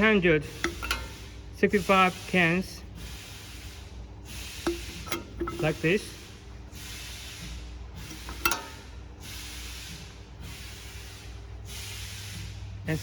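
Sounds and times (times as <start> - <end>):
compressed air hissing blasts: 0.0 - 13.0
low machine hum: 0.0 - 13.0.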